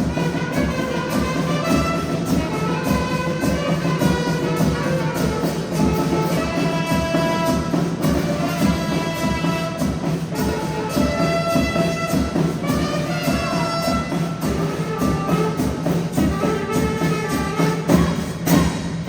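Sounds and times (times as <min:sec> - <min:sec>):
brass instruments playing melody: 0:00.0 - 0:19.0
steady drum beat: 0:00.0 - 0:19.0.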